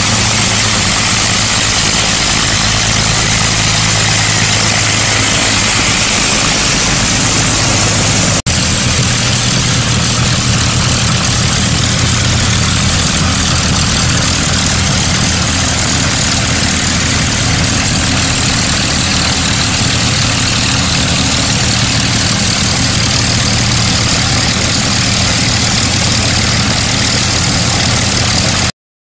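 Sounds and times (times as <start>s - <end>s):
aircraft piston engines idling: 0.0s - 28.7s.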